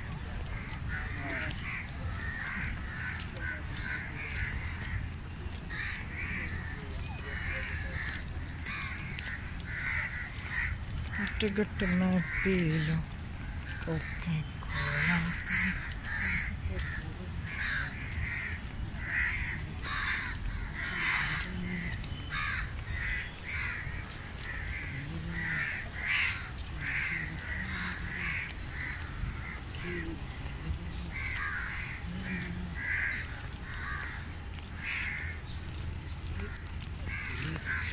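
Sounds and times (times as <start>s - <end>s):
birds calling: 0.0s - 37.9s
low background noise: 0.0s - 37.9s.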